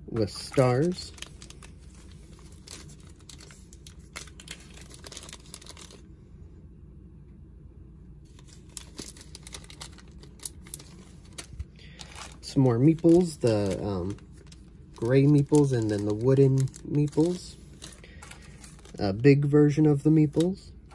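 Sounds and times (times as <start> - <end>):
plastic bag crinkling: 0.1 - 6.1, 8.3 - 19.2.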